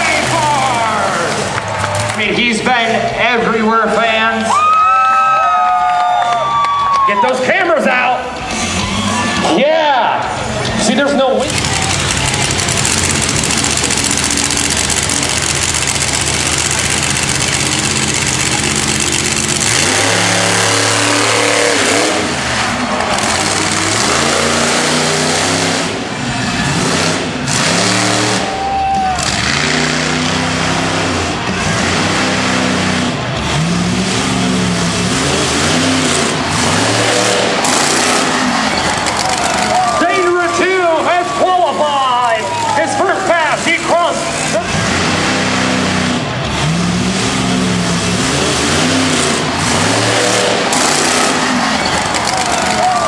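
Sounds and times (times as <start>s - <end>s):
truck engine revving: 0.0s - 4.3s, 7.3s - 53.0s.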